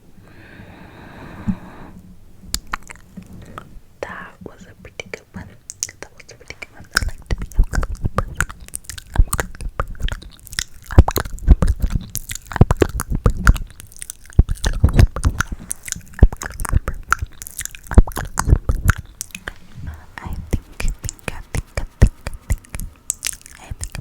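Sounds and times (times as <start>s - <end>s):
wet mouth clicks and smacks: 2.5s - 3.6s, 4.9s - 19.6s, 20.2s - 24.0s.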